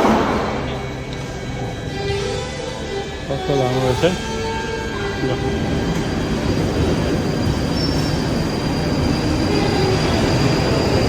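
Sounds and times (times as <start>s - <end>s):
underground train rumble: 0.0s - 11.0s
high wheel squeal: 0.5s - 11.0s.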